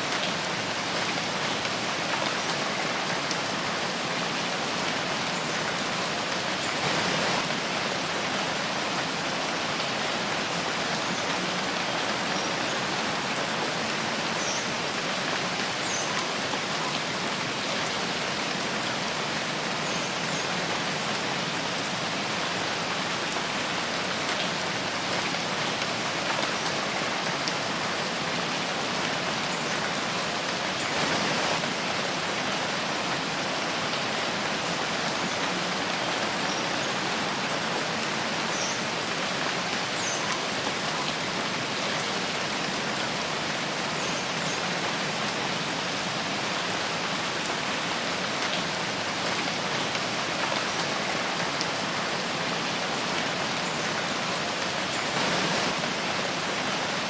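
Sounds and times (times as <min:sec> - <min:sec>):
rain on leaves: 0:00.0 - 0:57.0.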